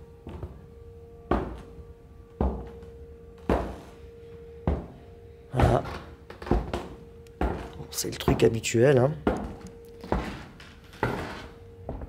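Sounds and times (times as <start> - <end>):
faint steady hum: 0.0 - 12.0
footsteps on hard floor: 0.2 - 0.6, 1.3 - 12.0.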